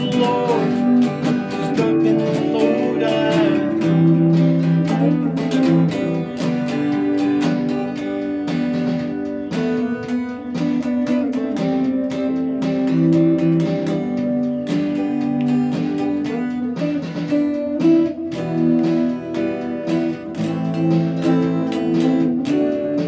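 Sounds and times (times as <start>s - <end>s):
guitar strumming chords: 0.0s - 23.0s.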